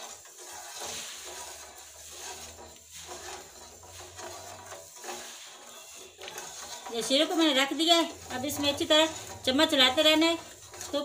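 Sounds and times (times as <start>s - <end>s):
spoon scraping steel saucepan: 0.0s - 11.0s.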